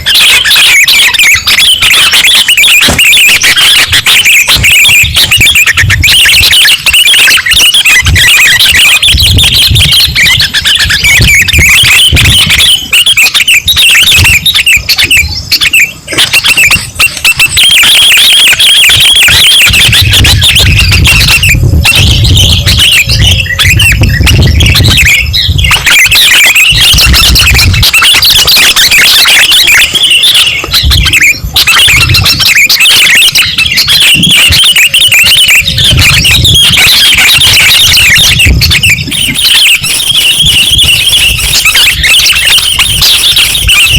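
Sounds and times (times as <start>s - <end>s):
bulbuls chirping rapidly: 0.0s - 43.9s.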